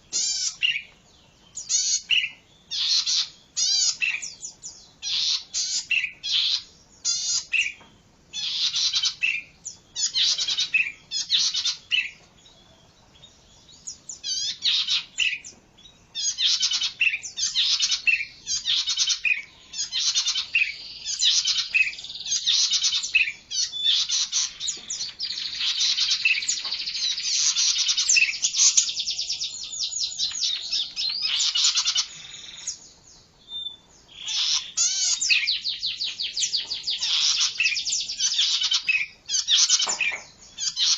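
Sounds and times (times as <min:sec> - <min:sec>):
bird singing rapid phrases: 0:00.0 - 0:40.9.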